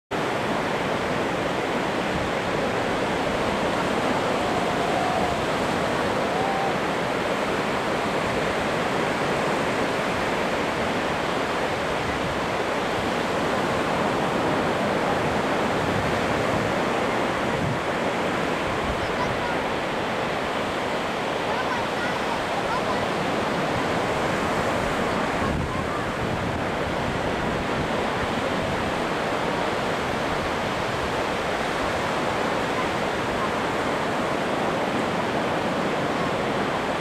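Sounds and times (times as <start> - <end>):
surf breaking in shallows: 0.2 - 37.0.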